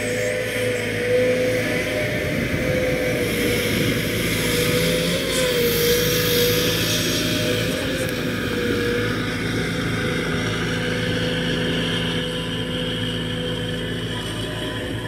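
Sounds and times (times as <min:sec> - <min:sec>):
excavator diesel engine running: 0:00.0 - 0:15.0
steady whine: 0:00.0 - 0:15.0.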